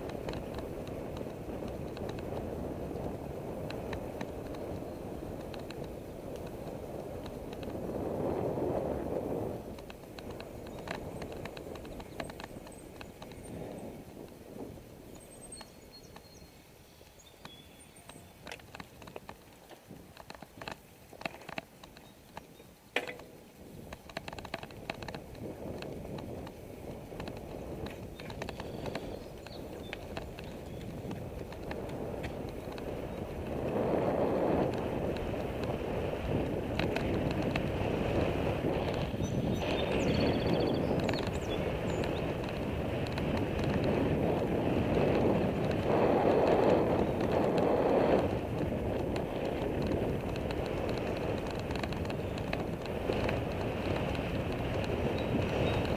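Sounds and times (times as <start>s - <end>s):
bicycle tyre noise: 0.0s - 55.9s
wind rushing over microphone: 0.0s - 55.9s.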